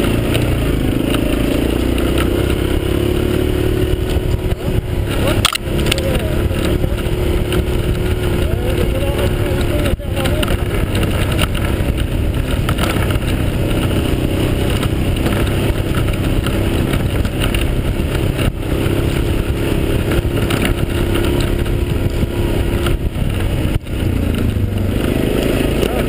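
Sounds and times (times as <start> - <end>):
atv engine running: 0.0 - 26.0
rumble on rough dirt track: 0.0 - 26.0.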